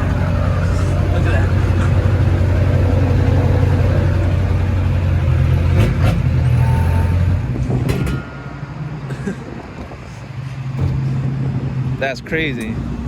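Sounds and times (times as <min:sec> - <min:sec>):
tow truck engine drone: 0:00.0 - 0:13.0.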